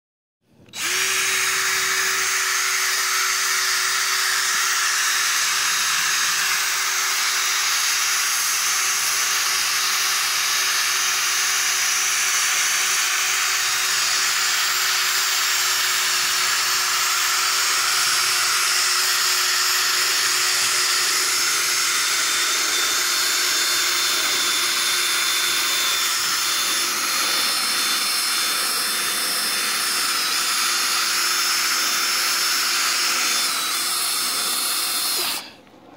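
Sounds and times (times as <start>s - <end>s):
cordless drill running: 0.6s - 35.6s.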